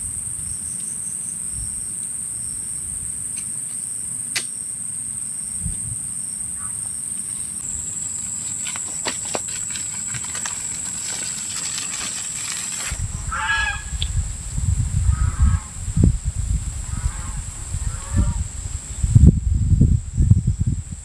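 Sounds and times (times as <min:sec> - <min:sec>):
crickets droning: 0:00.0 - 0:21.0.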